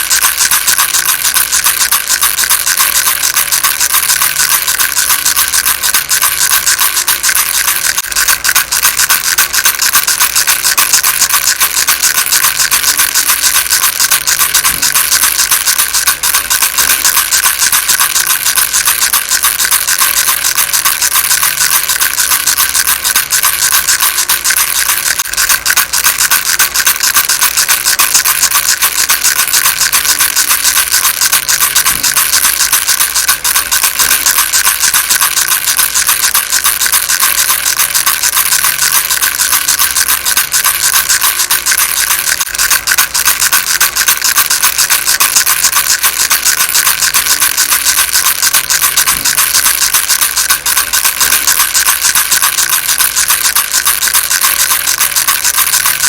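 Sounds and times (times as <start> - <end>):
baby rattle rattling: 0.0 - 56.0.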